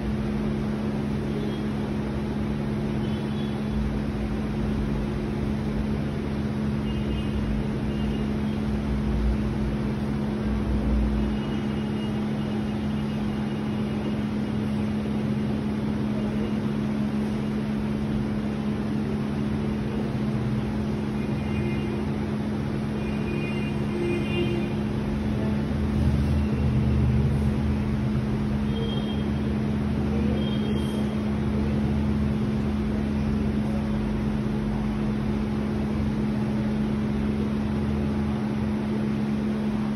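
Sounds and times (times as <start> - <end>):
ceiling fans humming: 0.0 - 39.9
room noise: 0.0 - 39.9.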